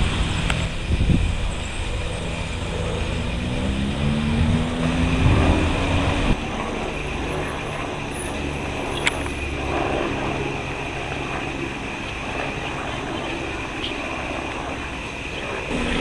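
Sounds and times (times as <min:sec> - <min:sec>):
helicopter flying past: 0:00.0 - 0:16.0.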